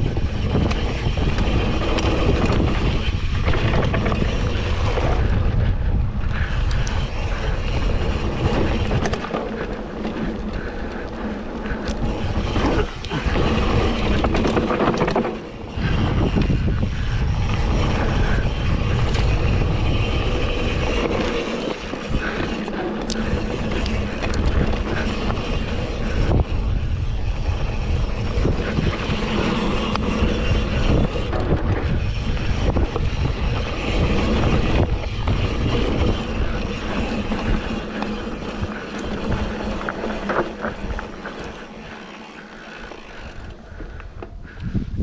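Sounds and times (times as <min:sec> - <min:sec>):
tyres rumbling over dirt: 0:00.0 - 0:44.5
bike clatter: 0:00.0 - 0:44.9
wind buffeting microphone: 0:00.0 - 0:45.0.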